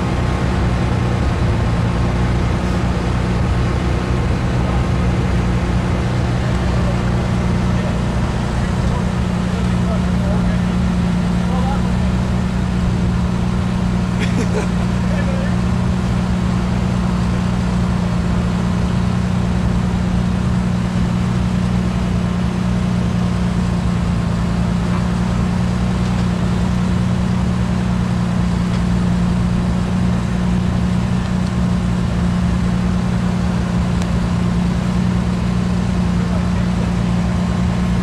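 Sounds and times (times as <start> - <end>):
engine running at low revs: 0.0 - 38.0.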